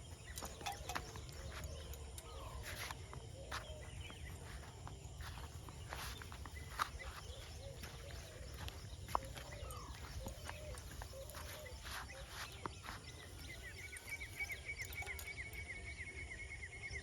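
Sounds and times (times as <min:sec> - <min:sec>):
footsteps outdoors: 0:00.0 - 0:15.7
birds chirping: 0:00.0 - 0:17.0.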